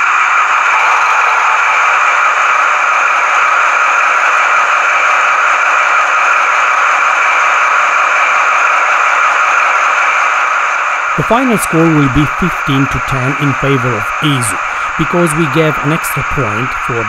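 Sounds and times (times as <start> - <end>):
model locomotive diesel engine drone: 0.0 - 17.0.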